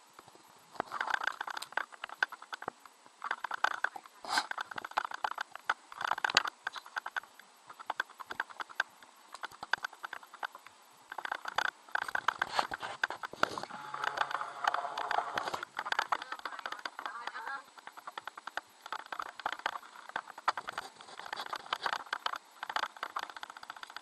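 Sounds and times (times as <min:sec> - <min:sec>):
rapid clicking and knocking: 0:00.8 - 0:24.0.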